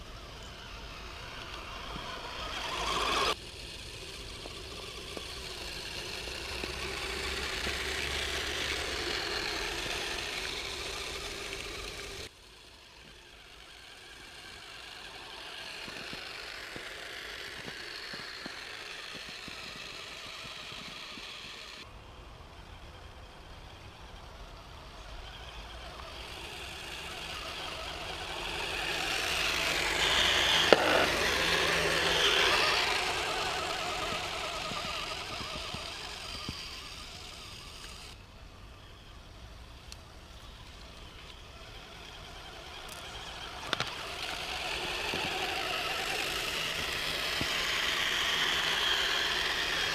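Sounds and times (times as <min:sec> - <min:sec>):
electric motors and gears whirring: 0:00.0 - 0:49.9.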